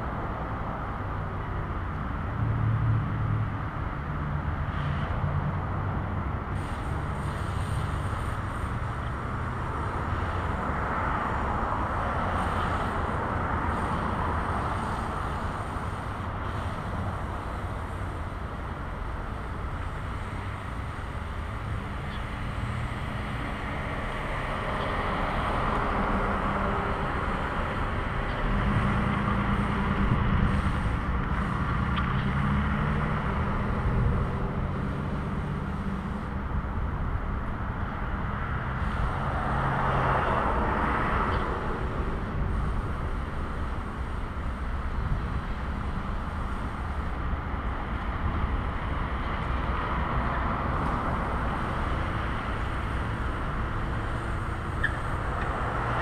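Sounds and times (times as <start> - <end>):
tyre noise of passing traffic: 0.0 - 56.0
heavy engine hum: 1.5 - 56.0.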